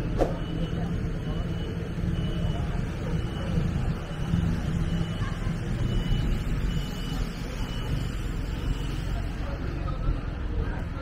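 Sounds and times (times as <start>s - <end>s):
people talking: 0.0s - 11.0s
traffic rumble: 0.0s - 11.0s.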